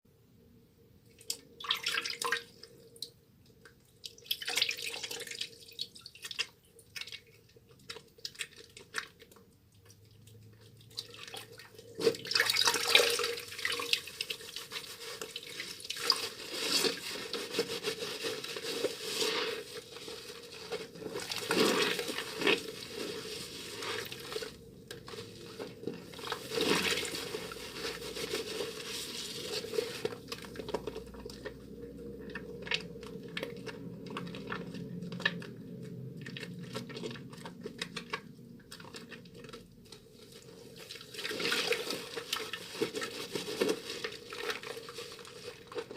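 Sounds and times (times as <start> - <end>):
wet hands lathering soap: 1.1 - 45.9.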